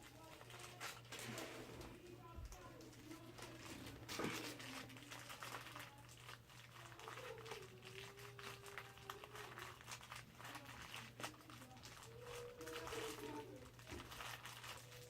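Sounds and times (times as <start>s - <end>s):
crinkling and small clicks: 0.0s - 15.0s.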